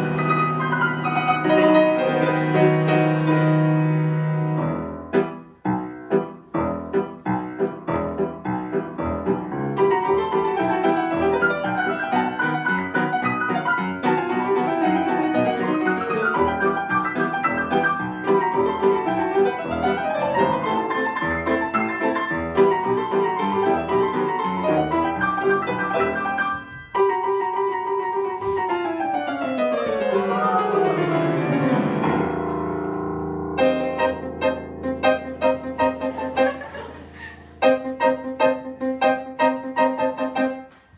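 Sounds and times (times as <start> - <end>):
piano duet: 0.0 - 40.9.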